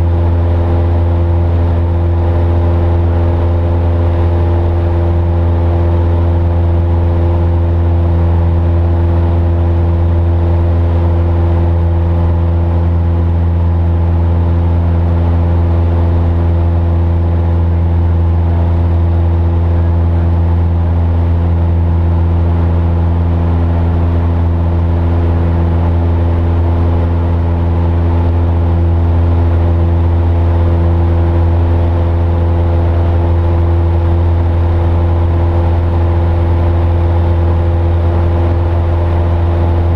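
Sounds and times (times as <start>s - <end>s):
light airplane engine droning: 0.0s - 39.9s.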